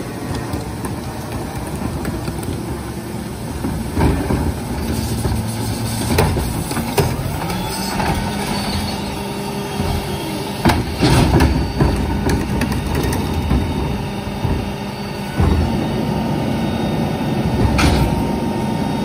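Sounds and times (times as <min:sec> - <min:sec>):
plastic carts knocking on hopper: 0:00.0 - 0:15.9
recyclables clattering: 0:00.0 - 0:16.5
garbage truck idling: 0:00.0 - 0:19.0.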